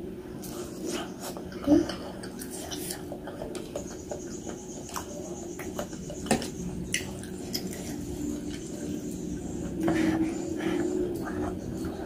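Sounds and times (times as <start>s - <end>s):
wet chewing mouth sounds: 0.5s - 12.0s.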